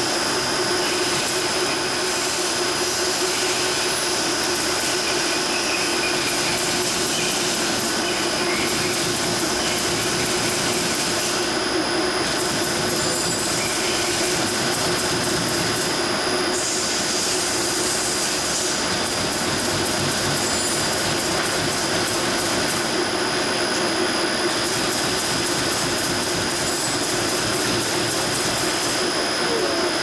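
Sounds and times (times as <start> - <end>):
drilling machine whirring: 0.0 - 30.0
high whine: 0.0 - 30.0.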